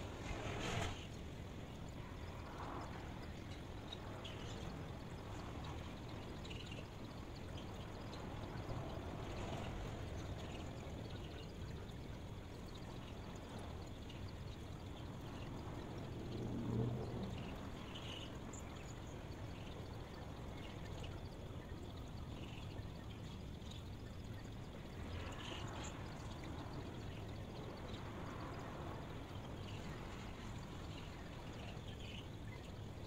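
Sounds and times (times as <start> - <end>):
white noise hiss: 0.0 - 33.0.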